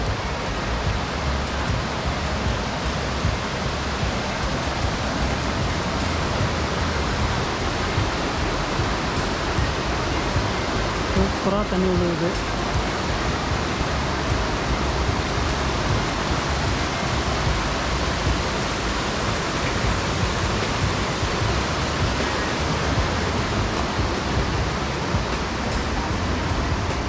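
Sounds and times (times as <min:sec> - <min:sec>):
waterfall rushing onto rocks: 0:00.0 - 0:27.0.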